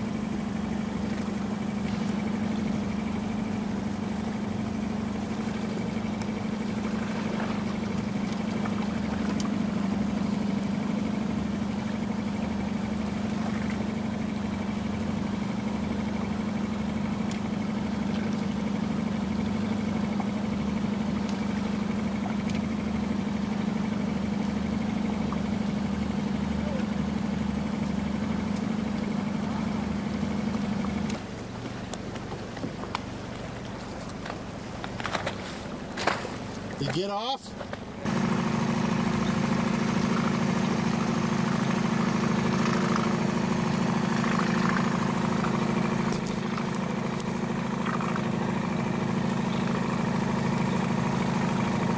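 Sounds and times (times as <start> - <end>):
outboard motor idling: 0.0 - 51.9.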